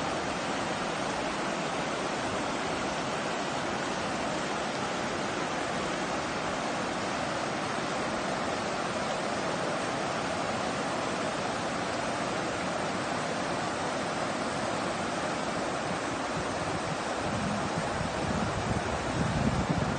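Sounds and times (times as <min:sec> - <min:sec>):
river water rushing over rocks: 0:00.0 - 0:19.9.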